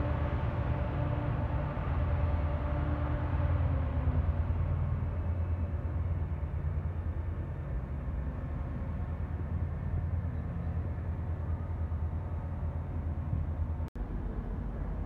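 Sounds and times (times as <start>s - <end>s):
diesel trains rumbling: 0.0s - 15.0s.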